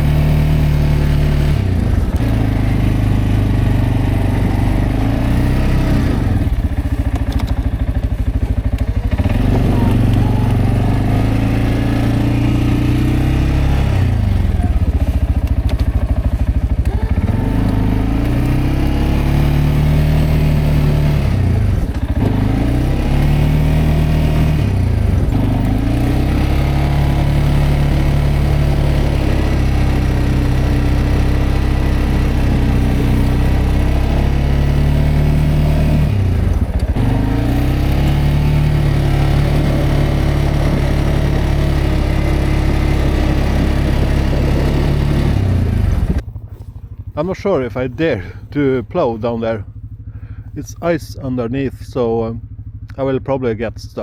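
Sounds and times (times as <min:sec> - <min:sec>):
plowing snow: 0:00.0 - 0:52.8
atv engine revving: 0:00.0 - 0:54.0.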